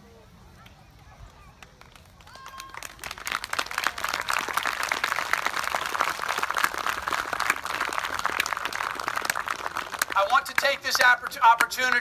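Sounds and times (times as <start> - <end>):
audience applause: 1.8 - 12.0.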